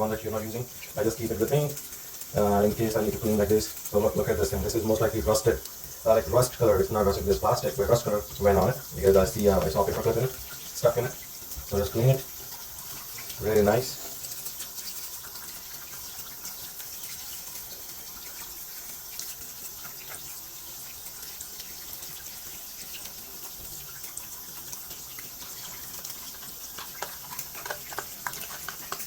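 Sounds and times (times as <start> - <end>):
toothbrush scrubbing plastic: 0.0 - 20.2, 24.6 - 29.0
tap water running into sink: 0.0 - 29.0.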